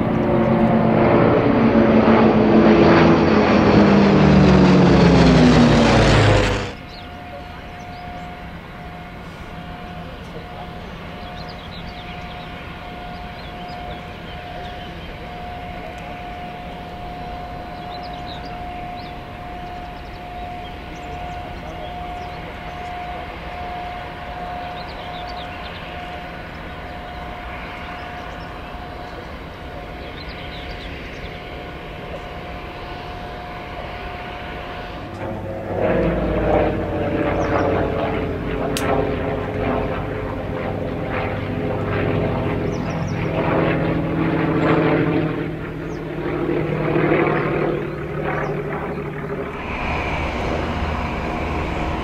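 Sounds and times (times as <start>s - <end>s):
distant propeller aircraft droning: 0.0s - 52.0s
fighter plane engine passing overhead: 0.0s - 52.0s.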